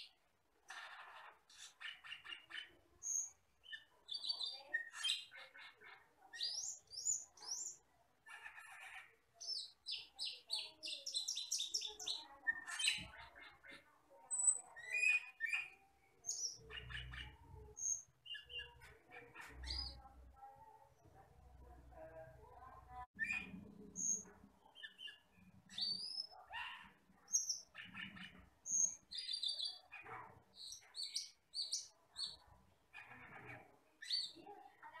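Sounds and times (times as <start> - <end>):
starling singing: 1.5 - 20.1, 23.0 - 34.4.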